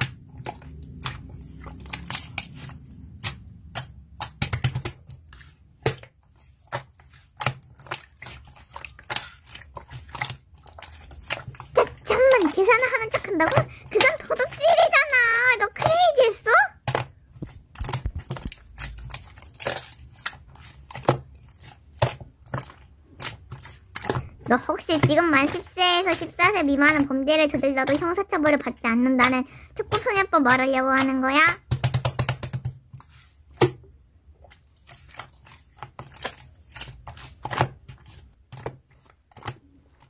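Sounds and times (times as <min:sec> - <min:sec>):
slime squelching: 0:00.0 - 0:40.0.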